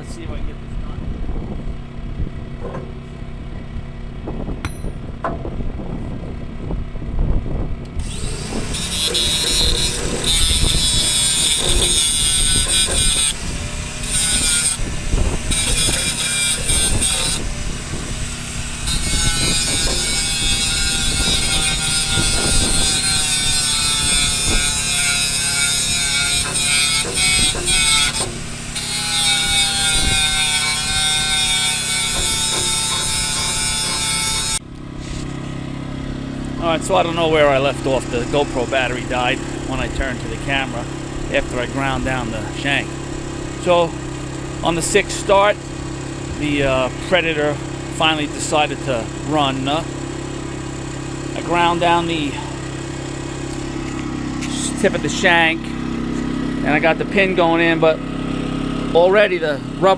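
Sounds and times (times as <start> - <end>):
portable generator running: 7.8 - 24.6, 25.8 - 59.9
angle grinder grinding steel: 8.0 - 59.9.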